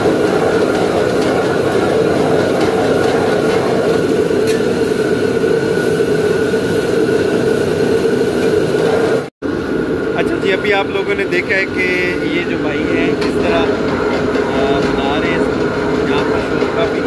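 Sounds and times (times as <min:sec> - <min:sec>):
gas burner roaring: 0:00.0 - 0:17.0.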